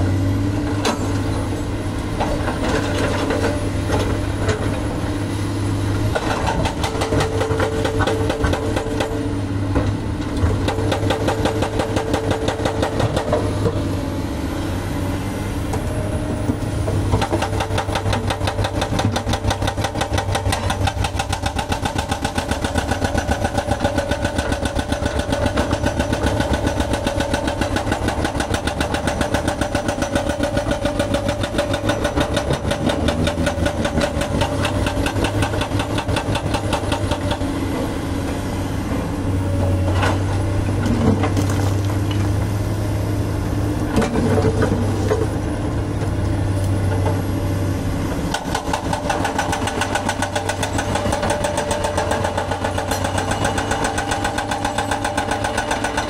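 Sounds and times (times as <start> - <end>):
excavator diesel engines under load: 0.0 - 56.0.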